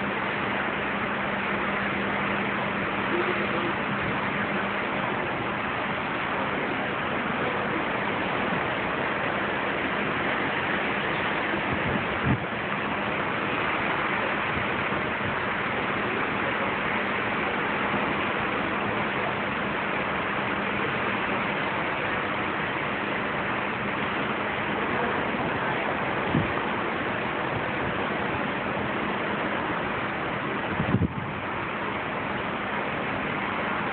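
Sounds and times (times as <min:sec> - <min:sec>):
rushing wake water: 0:00.0 - 0:33.9
wind at sea: 0:00.0 - 0:33.9.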